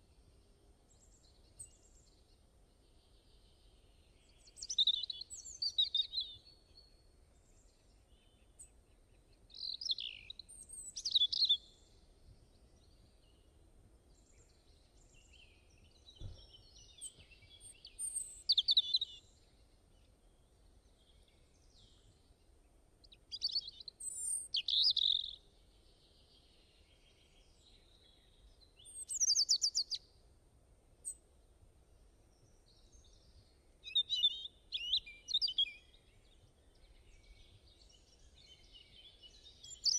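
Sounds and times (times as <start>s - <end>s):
songbird singing short phrases: 0.9s - 12.0s, 12.8s - 22.3s, 23.0s - 30.2s, 32.3s - 39.9s.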